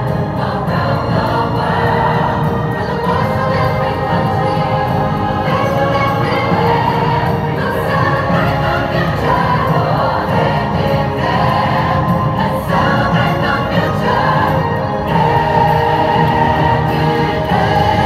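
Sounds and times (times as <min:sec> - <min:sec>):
choir singing: 0:00.0 - 0:18.0
soundtrack music: 0:00.0 - 0:18.0.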